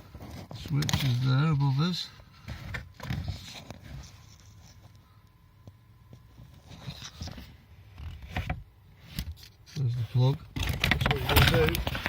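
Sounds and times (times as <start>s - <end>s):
rustling and scraping: 0.0s - 5.2s, 6.0s - 12.0s.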